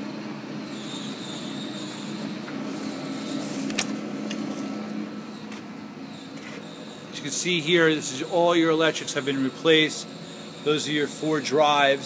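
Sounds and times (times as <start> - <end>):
machinery hum with high whine: 0.0 - 12.0.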